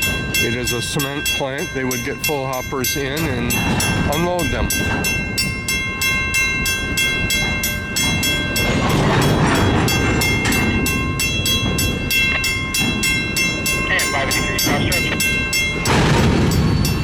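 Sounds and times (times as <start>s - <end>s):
crossing warning bell ringing: 0.0s - 17.0s
train rumble: 0.0s - 17.0s.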